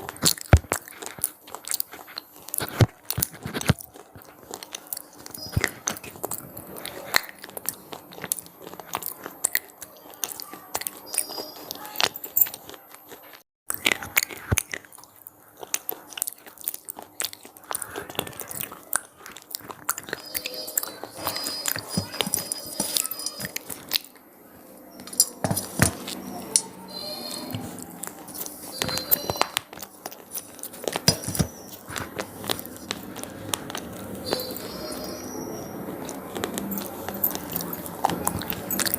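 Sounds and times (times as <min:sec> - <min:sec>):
crunchy snacks being chewed: 0:00.0 - 0:38.9.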